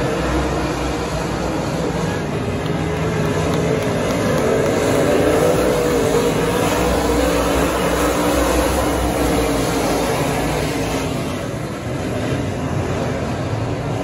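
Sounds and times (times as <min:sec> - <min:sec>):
race car engines roaring past: 0:00.0 - 0:14.0.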